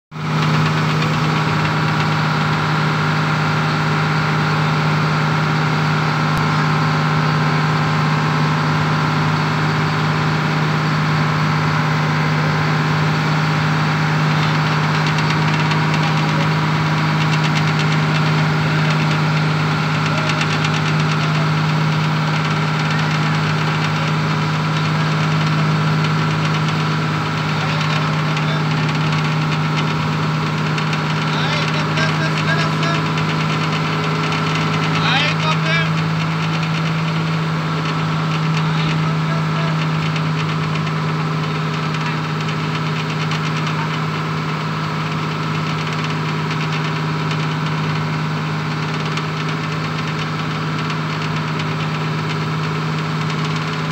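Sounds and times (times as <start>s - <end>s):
boat engine running steadily: 0.1s - 53.9s.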